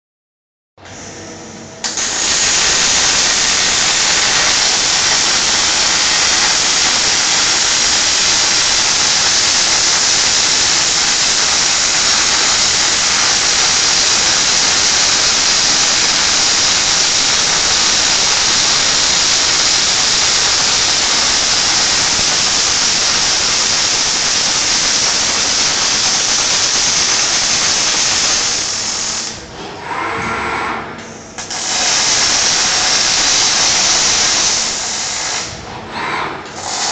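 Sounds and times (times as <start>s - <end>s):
welding arc hissing: 1.8s - 29.4s, 31.4s - 35.6s, 36.6s - 36.9s.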